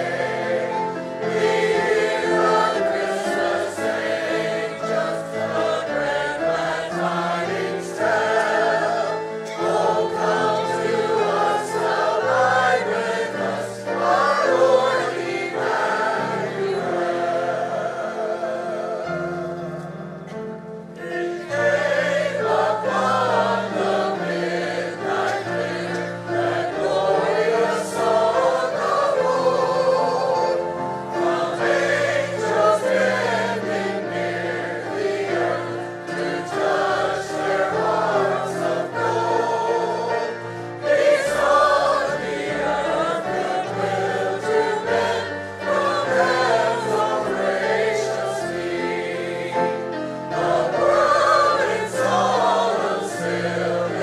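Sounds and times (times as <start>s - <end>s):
congregation singing a hymn: 0.0s - 54.0s
instrumental accompaniment: 0.0s - 54.0s.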